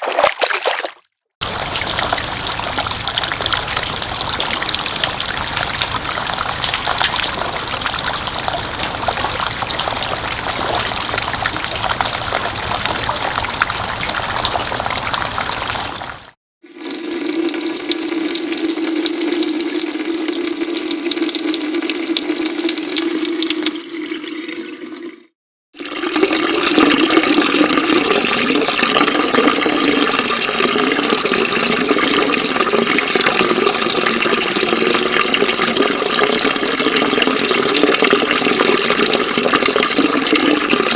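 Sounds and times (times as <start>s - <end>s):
churning stream of water: 0.0s - 40.9s
running water: 0.0s - 40.9s.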